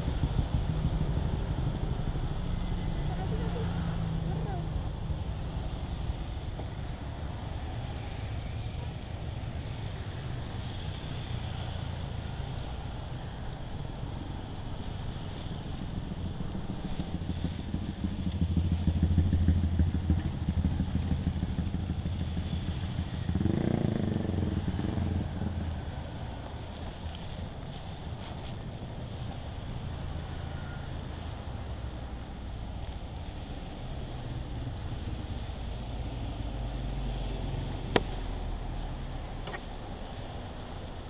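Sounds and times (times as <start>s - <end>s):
motorcycles and cars passing: 0.0s - 41.0s.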